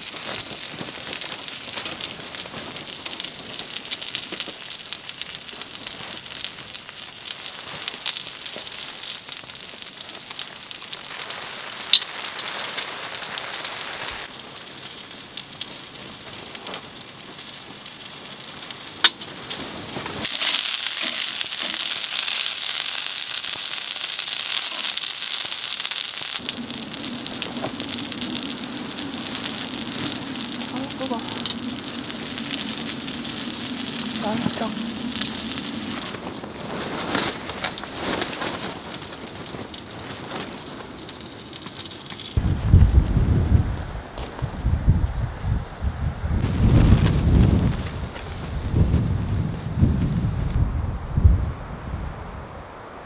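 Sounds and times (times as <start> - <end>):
rain pattering on a tent: 0.0 - 44.7, 46.4 - 50.6.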